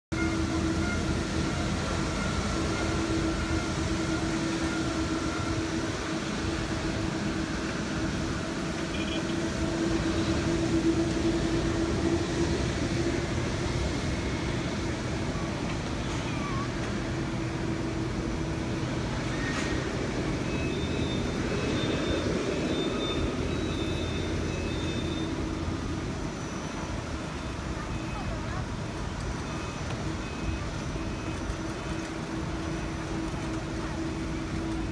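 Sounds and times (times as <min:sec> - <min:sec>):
airplane cabin rush and hum: 0:00.1 - 0:34.9.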